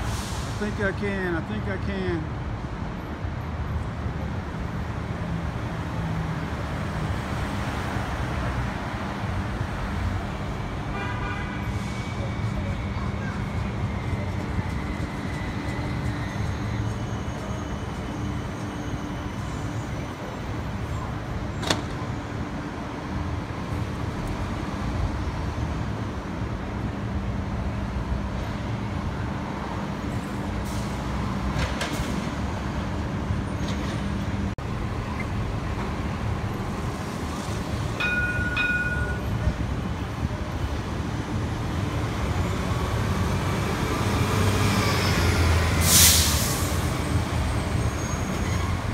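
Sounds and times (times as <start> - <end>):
streetcar electric hum: 0.0 - 48.9
traffic noise: 0.0 - 48.9.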